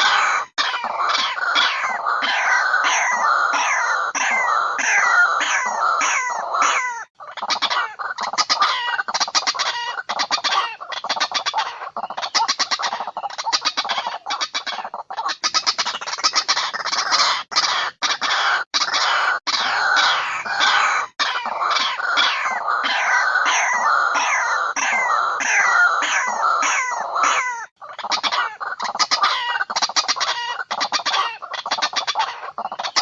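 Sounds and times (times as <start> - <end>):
waterhen calls: 0.0 - 33.0.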